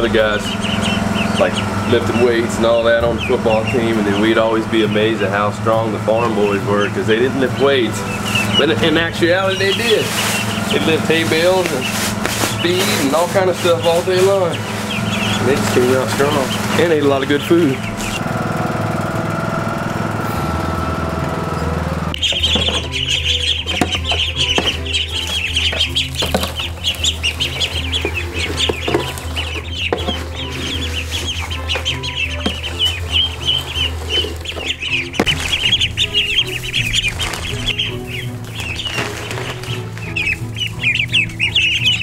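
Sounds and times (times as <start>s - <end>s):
ducklings peeping: 0.0s - 42.0s
lawn mower engine running: 0.0s - 42.0s.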